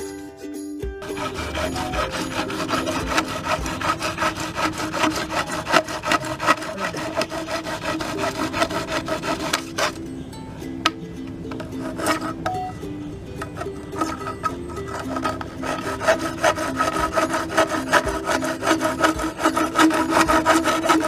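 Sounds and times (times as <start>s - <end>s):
hacksaw sawing plastic pipe: 1.0s - 10.0s, 11.5s - 12.5s, 13.4s - 21.0s.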